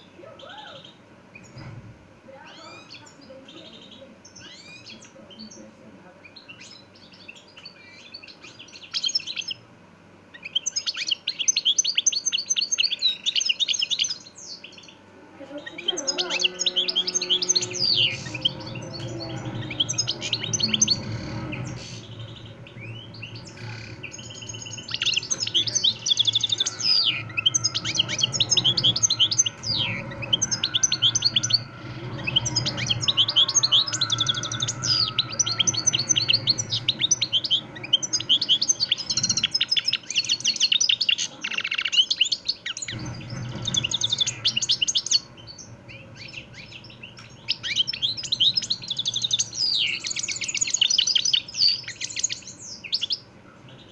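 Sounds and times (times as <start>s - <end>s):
bird twittering and trilling: 0.0s - 9.7s, 10.3s - 53.9s.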